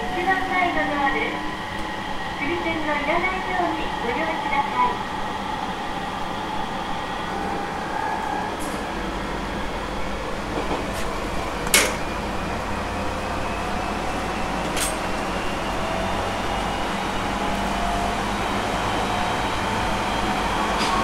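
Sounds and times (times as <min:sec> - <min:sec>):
electric train rumble: 0:00.0 - 0:21.0.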